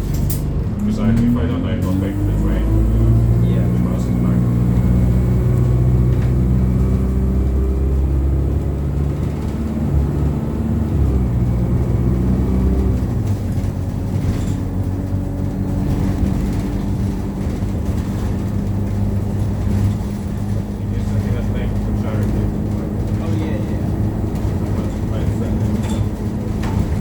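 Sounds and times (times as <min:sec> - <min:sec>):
bus engine drone: 0:00.0 - 0:27.0.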